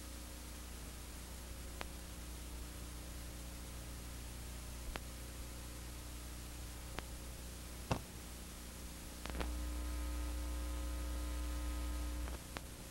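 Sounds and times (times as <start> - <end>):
electrical hum and hiss: 0.0 - 12.9.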